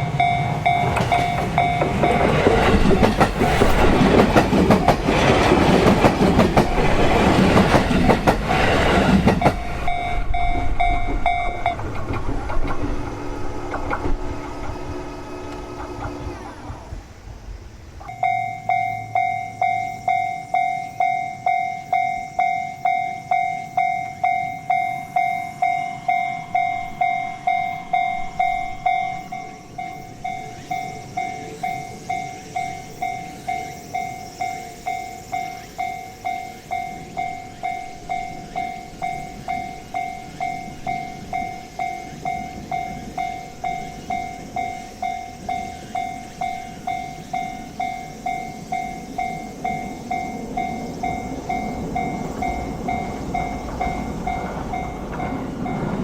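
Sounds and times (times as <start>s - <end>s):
level crossing bell clanging: 0.0s - 12.2s, 18.0s - 56.0s.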